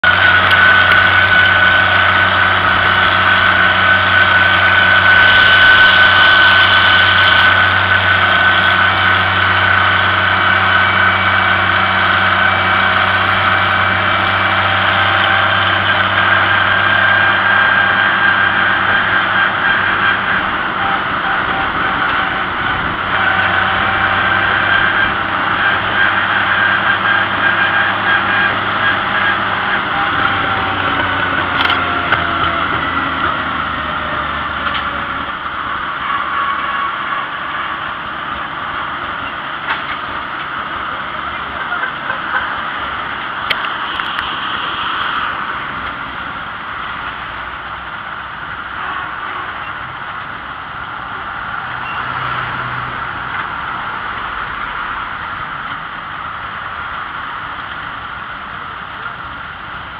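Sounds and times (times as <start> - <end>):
high whine: 0.0 - 59.9
tractor engine running: 0.0 - 59.9.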